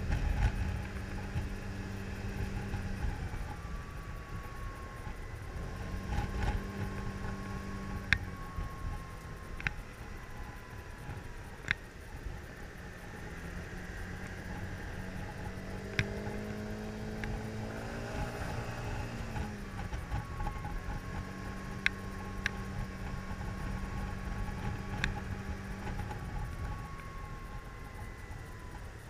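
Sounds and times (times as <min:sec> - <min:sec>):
scooter engine running: 0:00.0 - 0:29.0
wind and road noise: 0:00.0 - 0:29.0.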